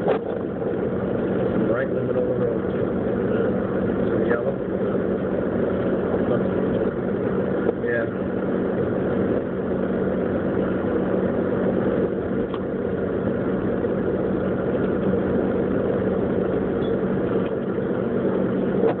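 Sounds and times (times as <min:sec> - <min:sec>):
car engine humming in cabin: 0:00.0 - 0:19.0
vehicle road noise: 0:00.0 - 0:19.0.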